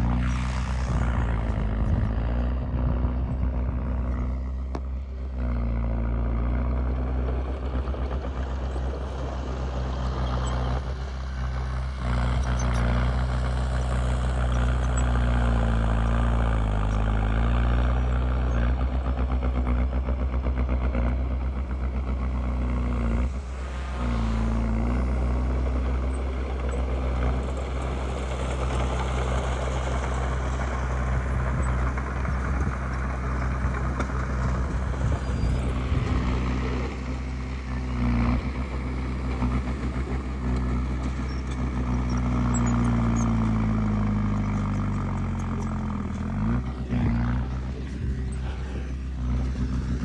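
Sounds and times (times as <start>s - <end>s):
rough noise: 0.0s - 18.7s, 21.7s - 50.0s
bulldozer diesel engine under load: 0.0s - 50.0s.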